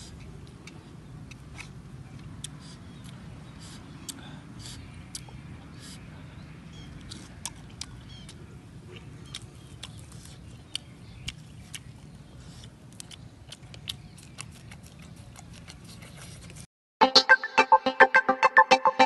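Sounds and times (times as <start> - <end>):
wet chewing smacks: 0.0 - 6.0, 6.9 - 16.6.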